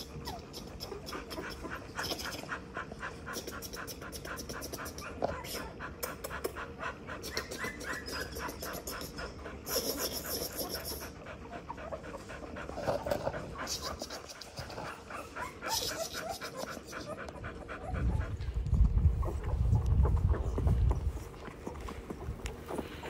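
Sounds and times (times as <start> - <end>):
puppy panting: 0.0 - 23.0.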